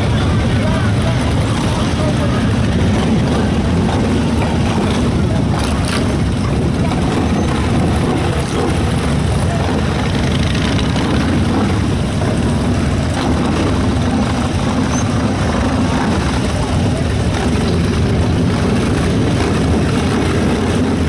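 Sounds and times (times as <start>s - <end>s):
motorcycle engines passing: 0.0s - 21.0s.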